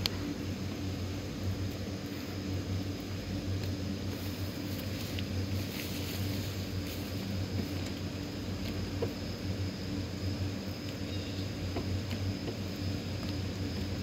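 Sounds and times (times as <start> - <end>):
constant hiss: 0.0 - 14.0
electric blower fans humming: 0.0 - 14.0.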